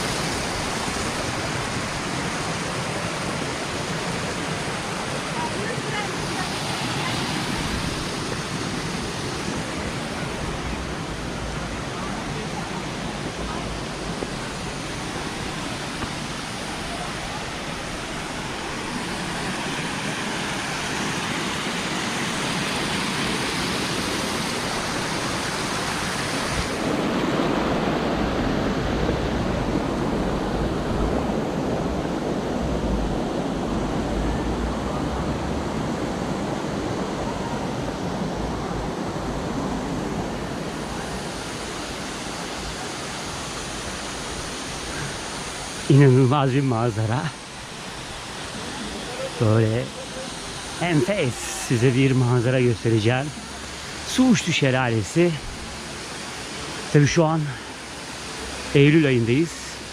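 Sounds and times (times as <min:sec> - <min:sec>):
stream and waterfall rushing: 0:00.0 - 0:59.9.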